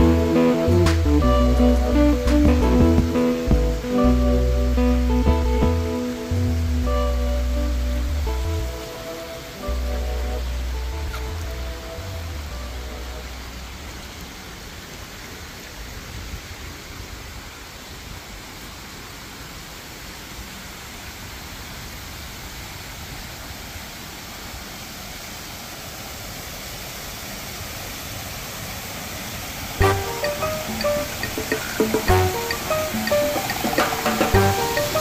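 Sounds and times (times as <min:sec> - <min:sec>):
waterfall splashing into pool: 0:00.0 - 0:06.5, 0:13.2 - 0:35.0.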